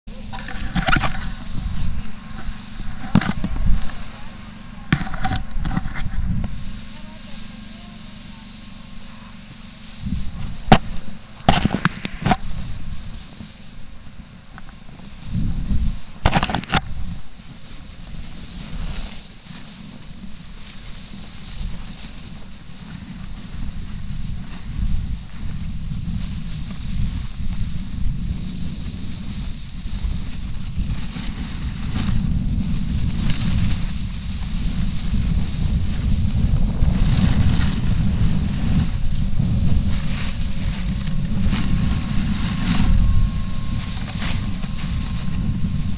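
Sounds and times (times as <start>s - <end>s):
snowboard sliding on snow: 0.1s - 45.9s
wind buffeting microphone: 0.1s - 45.9s.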